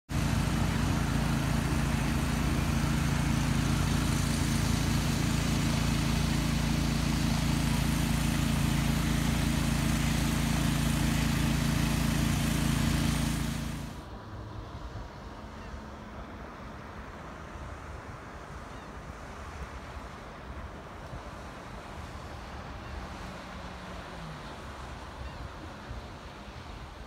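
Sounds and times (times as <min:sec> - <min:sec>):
outboard motor droning: 0:00.1 - 0:14.4, 0:15.5 - 0:27.0.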